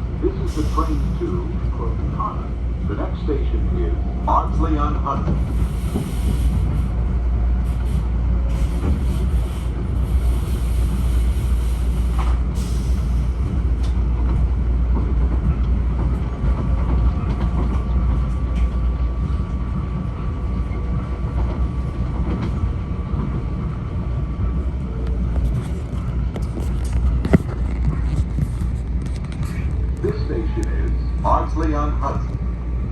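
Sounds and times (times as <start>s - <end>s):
train wheels rumbling: 0.0s - 32.9s.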